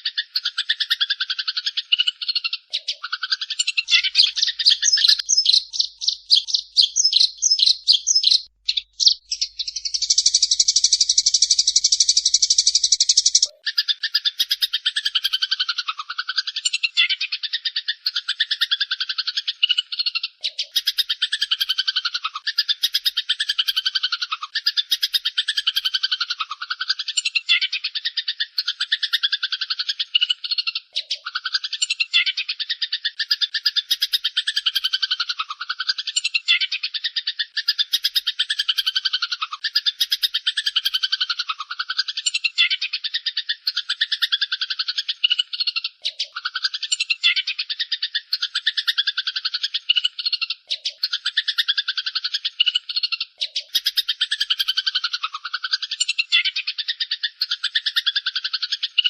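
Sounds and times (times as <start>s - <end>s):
sparrows chattering: 0.0s - 59.0s.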